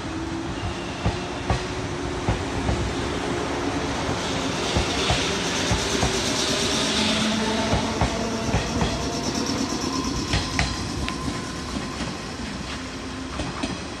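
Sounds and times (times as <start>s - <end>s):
electric train running: 0.0s - 14.0s.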